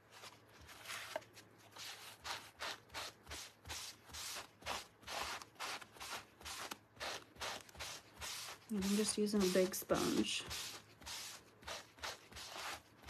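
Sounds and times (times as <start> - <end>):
sponge swishing on wood: 0.1 - 13.0.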